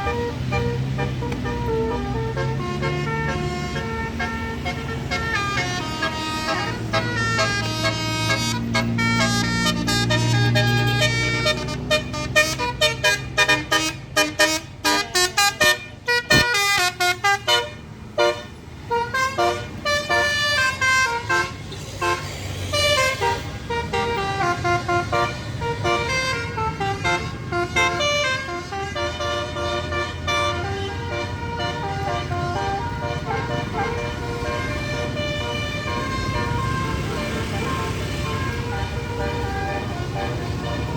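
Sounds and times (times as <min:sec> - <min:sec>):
bus engine running: 0:00.0 - 0:40.9
musical air horn tune: 0:00.0 - 0:40.9.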